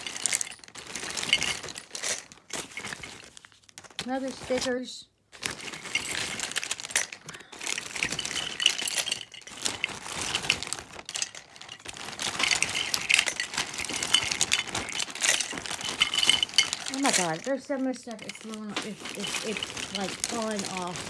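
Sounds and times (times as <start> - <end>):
pencils clicking and rattling: 0.0 - 21.0.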